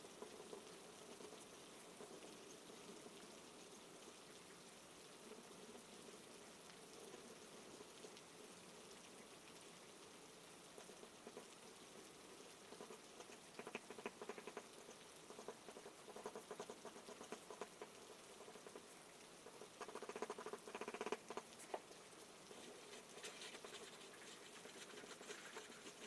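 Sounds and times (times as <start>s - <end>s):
soft rain pattering: 0.0s - 26.0s.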